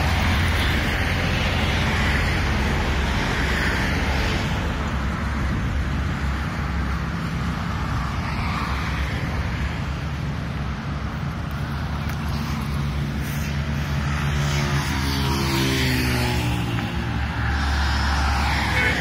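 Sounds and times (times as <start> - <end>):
wind rumble on microphone: 0.0 - 18.8
cars passing: 0.0 - 19.0.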